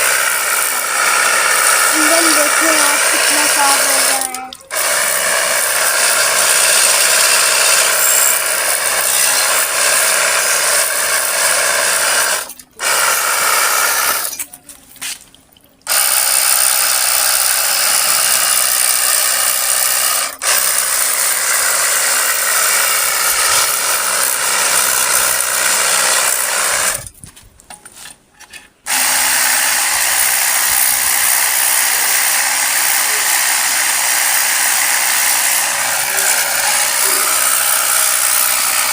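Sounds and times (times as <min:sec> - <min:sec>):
pressure washer spraying water: 0:00.0 - 0:14.4, 0:15.9 - 0:27.0, 0:28.9 - 0:38.9.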